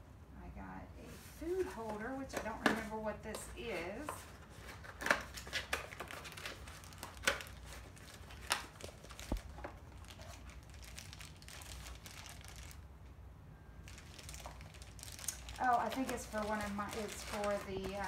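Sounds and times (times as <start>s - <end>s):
cardboard rustling: 1.1s - 12.8s, 13.9s - 18.0s
plastic wrapping crinkling: 1.6s - 12.9s, 13.8s - 18.0s.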